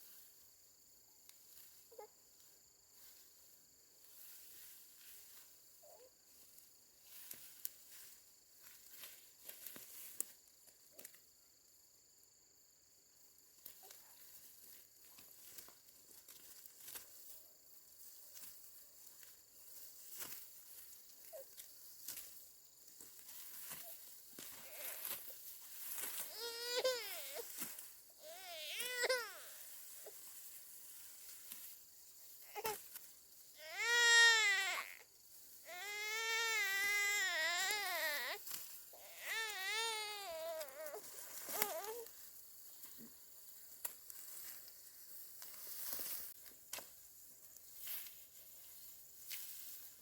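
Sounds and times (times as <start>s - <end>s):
high insect drone: 0.0s - 50.0s
soft rustles and crackles: 1.2s - 11.2s, 13.6s - 33.5s, 37.0s - 50.0s.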